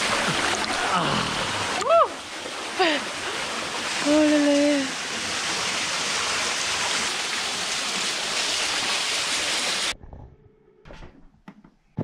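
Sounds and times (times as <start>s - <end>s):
waterfall rushing: 0.0s - 9.9s.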